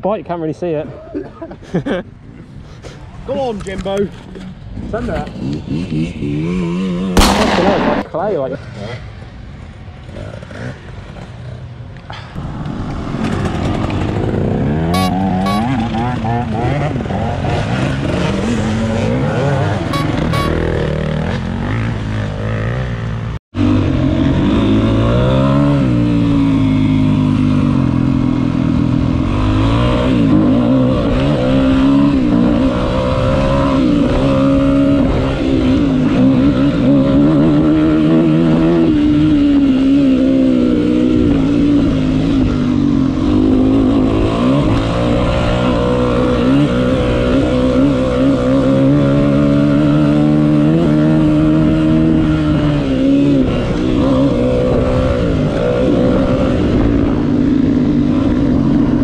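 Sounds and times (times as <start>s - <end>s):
dirt bike engine revving: 4.4s - 9.4s, 13.0s - 59.0s.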